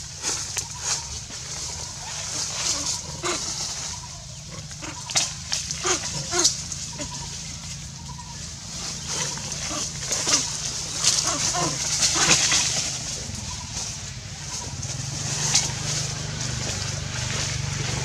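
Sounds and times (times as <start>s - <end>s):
sharp animal calls: 0.0s - 17.1s.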